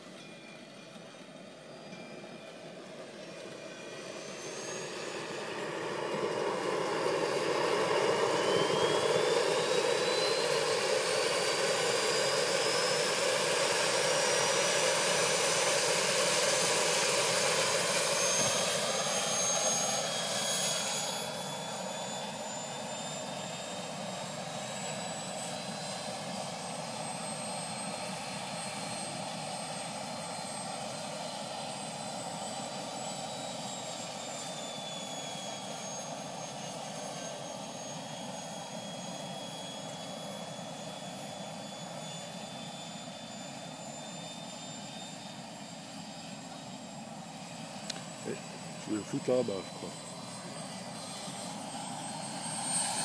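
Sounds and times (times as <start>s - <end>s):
turbine engine whine: 0.0s - 53.0s.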